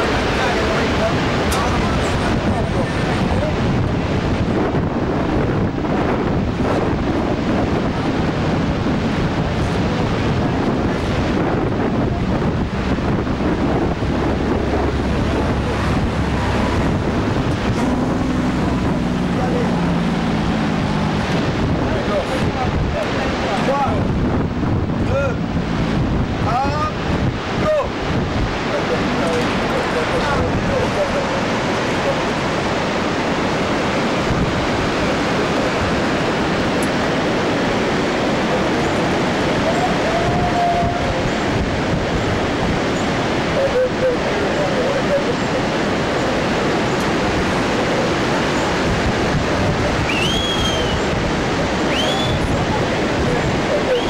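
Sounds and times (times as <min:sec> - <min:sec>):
white water rushing: 0:00.0 - 0:54.0
wind buffeting microphone: 0:00.0 - 0:54.0.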